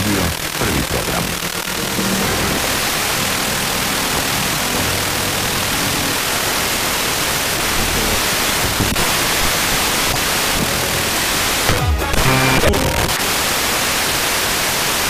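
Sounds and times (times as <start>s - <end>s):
faint radio tuning clicks: 0.0s - 15.0s
radio receiver hiss: 0.0s - 15.0s.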